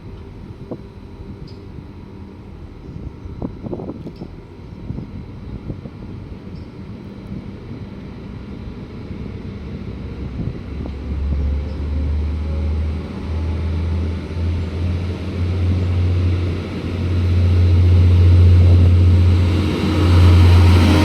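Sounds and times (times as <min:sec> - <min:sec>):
diesel train engines droning: 0:00.0 - 0:21.0.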